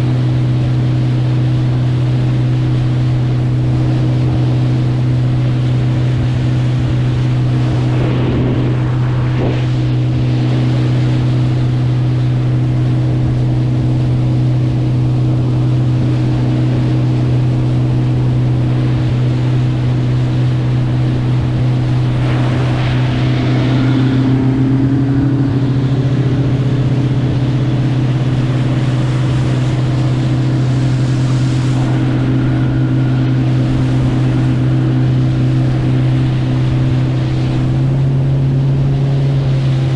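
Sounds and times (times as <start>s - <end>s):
motorboat engine droning: 0.0s - 39.9s
rushing water: 0.0s - 39.9s
wind noise: 0.0s - 39.9s.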